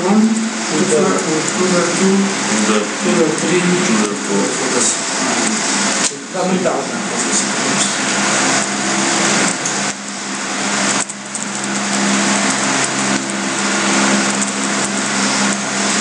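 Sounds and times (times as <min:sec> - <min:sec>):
loud hum with dense hiss: 0:00.0 - 0:16.0.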